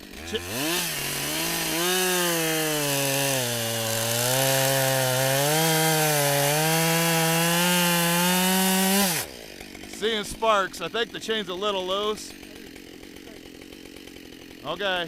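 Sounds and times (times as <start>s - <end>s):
chainsaw cutting a log: 0.0s - 15.0s.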